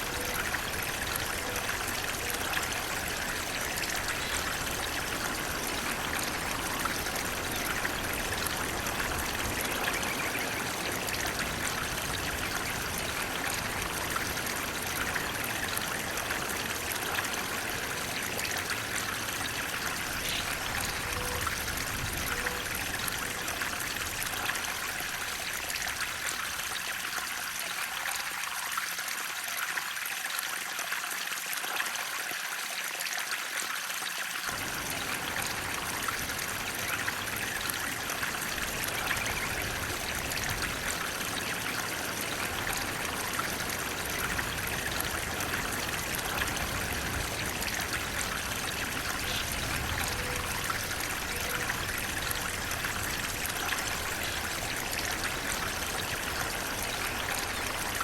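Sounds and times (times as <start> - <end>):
deeper low water rush: 0.0 - 26.7, 34.5 - 58.0
flowing water rushing: 0.0 - 58.0.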